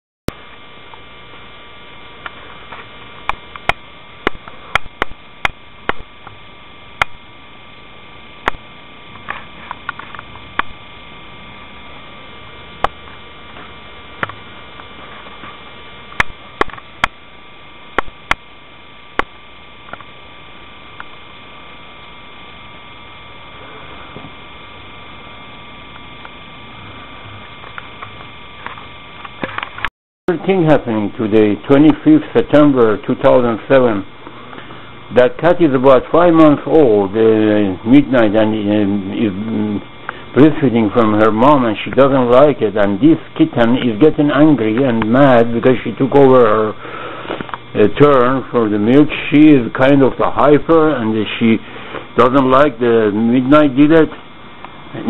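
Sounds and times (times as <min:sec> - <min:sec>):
high whining tones: 0:00.3 - 0:55.0
steady electrical hum: 0:00.3 - 0:55.0.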